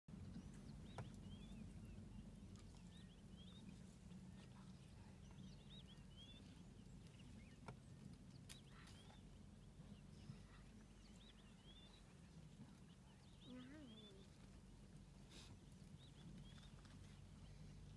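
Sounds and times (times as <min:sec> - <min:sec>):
birds chirping: 0:00.1 - 0:17.9
low background rumble: 0:00.1 - 0:17.9.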